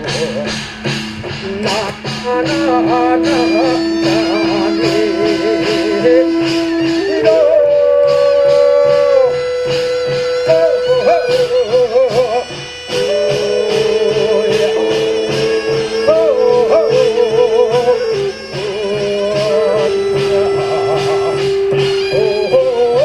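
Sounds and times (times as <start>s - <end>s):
drum and cymbal strokes: 0.0s - 23.0s
wavering held melody: 0.0s - 23.0s.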